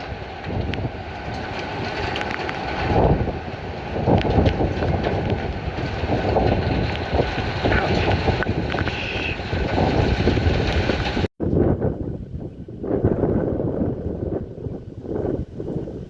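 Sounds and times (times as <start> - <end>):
wind gusts on microphone: 0.0 - 16.0.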